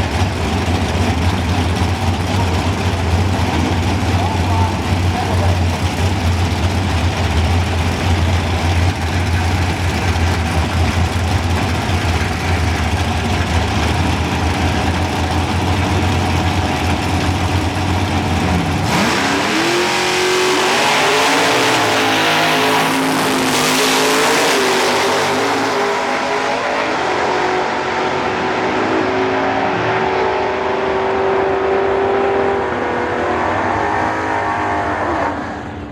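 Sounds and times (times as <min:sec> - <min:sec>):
race car engine: 0:00.0 - 0:35.9.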